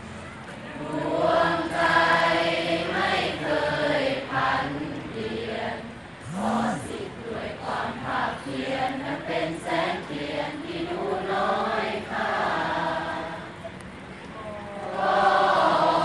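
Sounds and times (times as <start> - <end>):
group singing in unison: 0.7 - 13.6, 14.8 - 16.0.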